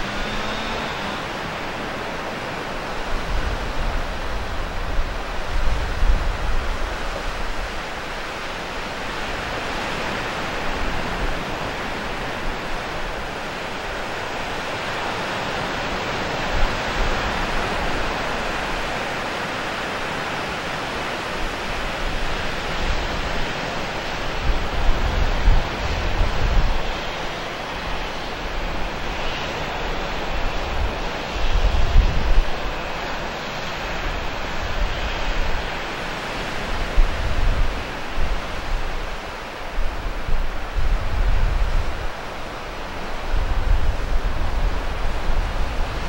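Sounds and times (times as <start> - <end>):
wind buffeting microphone: 0.0 - 15.0, 15.6 - 46.0
ocean surf: 0.0 - 46.0.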